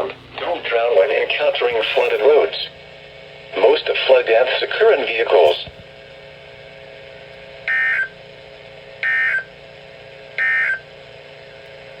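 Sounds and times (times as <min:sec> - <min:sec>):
faint receiver hum: 0:00.0 - 0:12.0.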